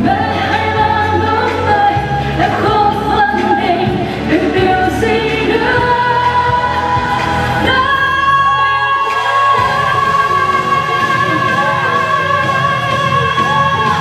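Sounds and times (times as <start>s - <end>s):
woman singing into microphone: 0.0s - 14.0s.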